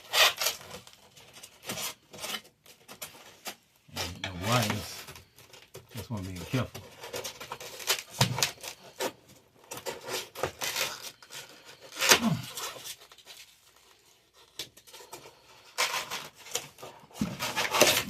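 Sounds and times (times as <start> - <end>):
debris scraping and tearing: 0.0 - 18.0.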